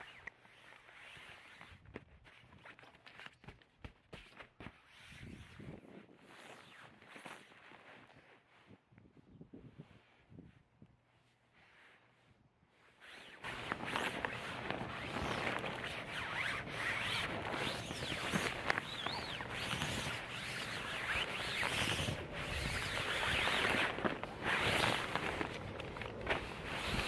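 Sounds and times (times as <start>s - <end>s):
rustling on an air mat: 0.0s - 27.0s.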